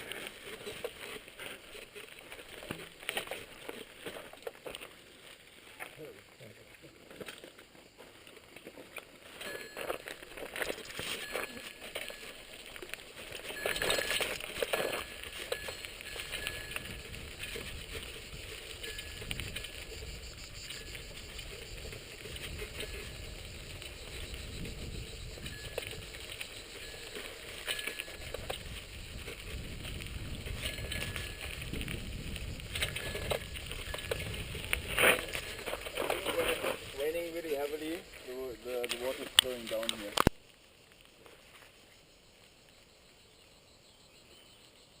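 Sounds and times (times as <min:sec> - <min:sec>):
bicycle tyres rumbling on rough ground: 0:00.0 - 0:41.7.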